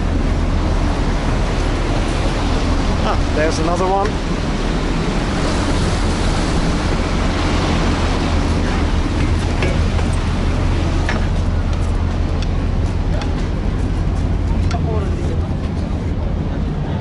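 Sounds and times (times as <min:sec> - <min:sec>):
churning wake water: 0:00.0 - 0:17.0
ferry engine humming: 0:00.0 - 0:17.0
wind: 0:00.0 - 0:17.0.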